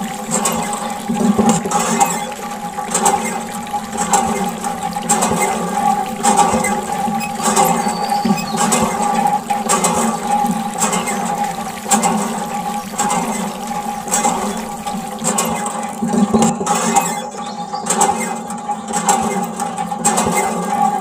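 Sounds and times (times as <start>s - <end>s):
water splashing onto wet sand: 0.0s - 21.0s.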